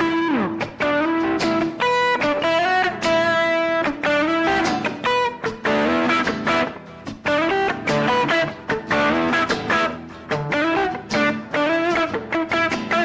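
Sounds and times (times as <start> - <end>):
lead guitar solo with bends: 0.0 - 13.0.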